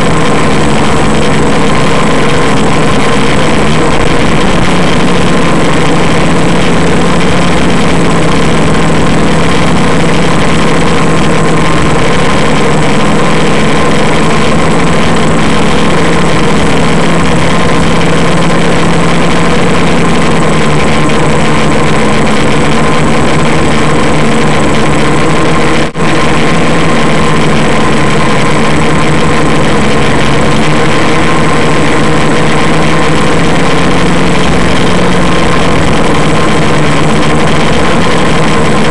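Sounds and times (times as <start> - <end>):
quadcopter motors humming: 0.0 - 38.9.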